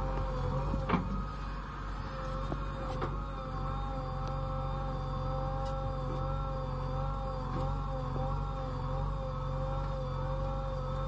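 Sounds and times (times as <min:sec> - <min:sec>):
diesel engine running: 0:00.0 - 0:11.0
hydraulic whine: 0:00.0 - 0:11.0.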